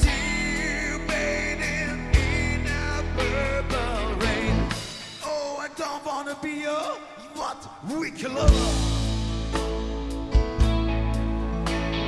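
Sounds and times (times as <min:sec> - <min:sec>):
live rock band playing: 0:00.0 - 0:07.0, 0:08.1 - 0:12.0.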